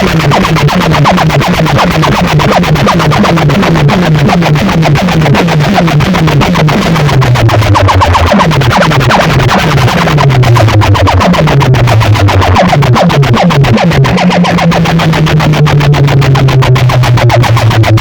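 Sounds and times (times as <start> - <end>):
loud electronic dance music: 0.0 - 18.0.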